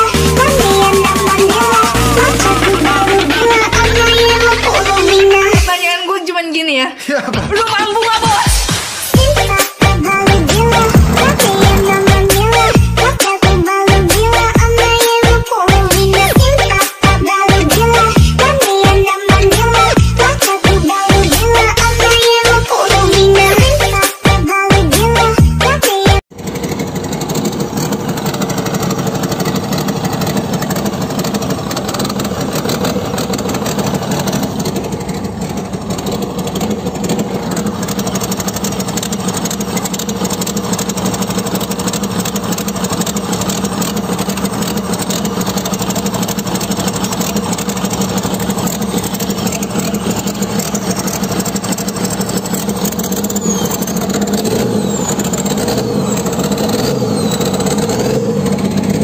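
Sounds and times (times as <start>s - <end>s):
excavator diesel engine running: 0.0s - 6.0s, 7.3s - 59.0s.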